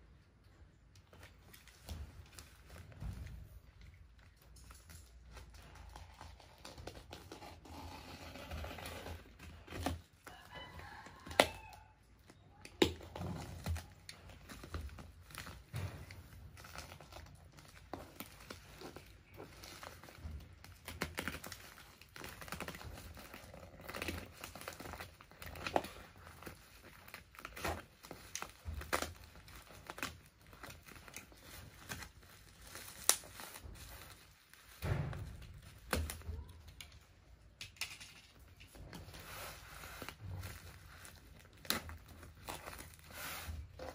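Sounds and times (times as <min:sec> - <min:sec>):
plastic crinkling: 0:00.3 - 0:43.9.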